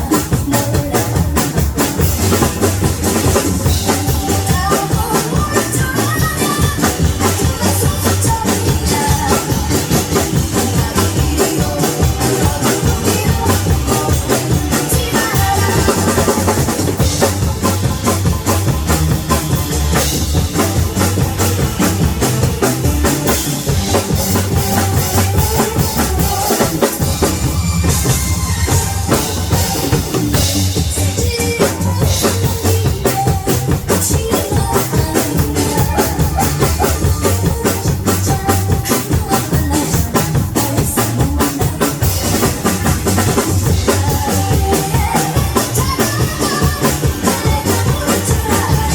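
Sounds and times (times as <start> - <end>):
drum kit playing: 0.0 - 48.9
upbeat backing track: 0.0 - 48.9.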